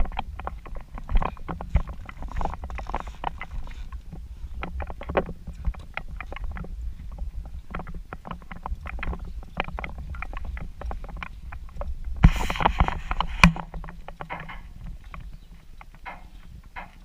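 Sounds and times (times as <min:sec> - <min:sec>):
knocks and clicks: 0:00.0 - 0:17.0.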